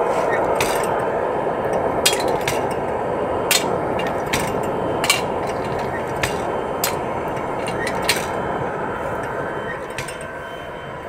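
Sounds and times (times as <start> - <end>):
gasifier rushing noise: 0.0 - 11.0.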